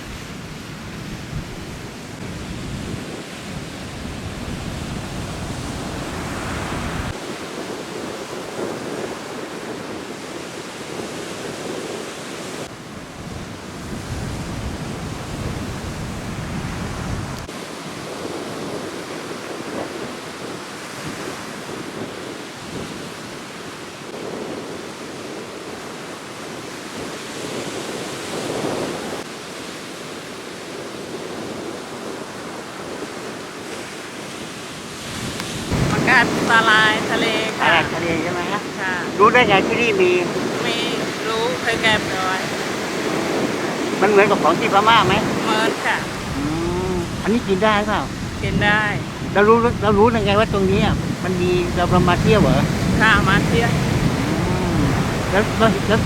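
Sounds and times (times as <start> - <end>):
wind buffeting microphone: 0.0 - 29.3, 30.5 - 56.0
surf washing up a beach: 0.0 - 56.0.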